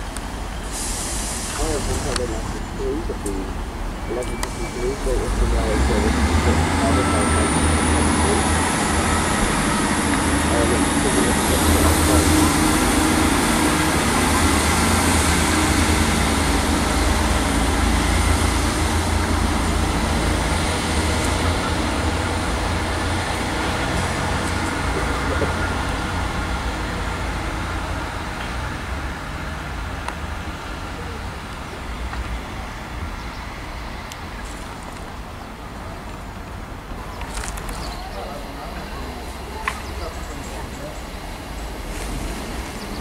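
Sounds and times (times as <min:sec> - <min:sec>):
diesel train engines running: 0:00.0 - 0:43.0.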